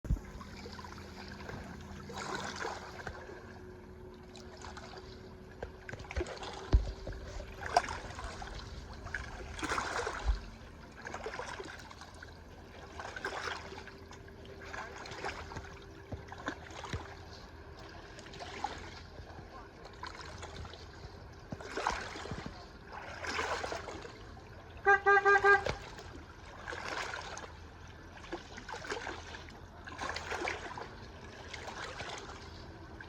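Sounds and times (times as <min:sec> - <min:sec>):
water lapping around a boat: 0:00.0 - 0:33.0
faint steady hum: 0:00.1 - 0:33.0.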